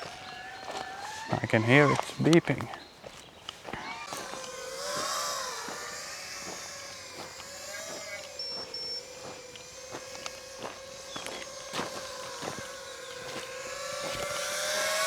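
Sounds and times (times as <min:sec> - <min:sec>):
footsteps through grass: 0:00.0 - 0:15.0
quadcopter motors whining: 0:00.0 - 0:15.0.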